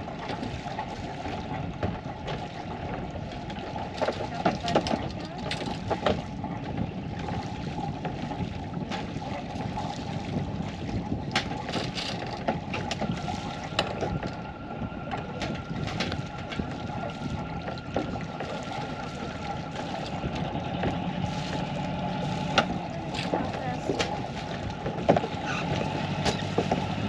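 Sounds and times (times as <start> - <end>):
boat engine running at low revs: 0.0 - 27.0.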